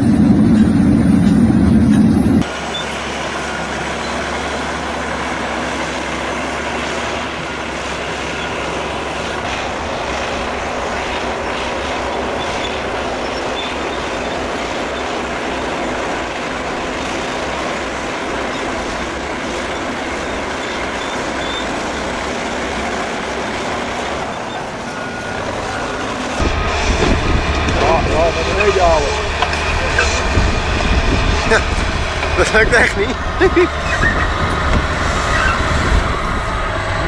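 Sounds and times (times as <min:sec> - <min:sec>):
heavy diesel engines rumbling: 0:00.0 - 0:37.0.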